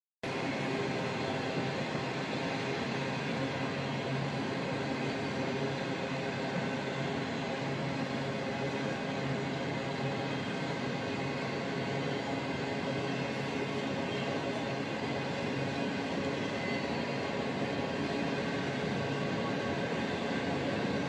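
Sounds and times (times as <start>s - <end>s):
train wheels rumbling on rails: 0.2s - 21.0s.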